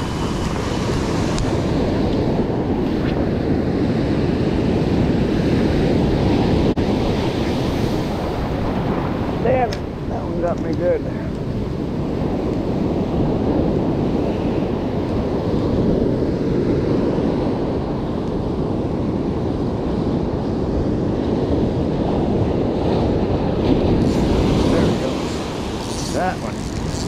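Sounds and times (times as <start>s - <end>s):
surf breaking on beach: 0.0s - 17.9s, 21.8s - 27.0s
wind noise on microphone: 0.0s - 27.0s.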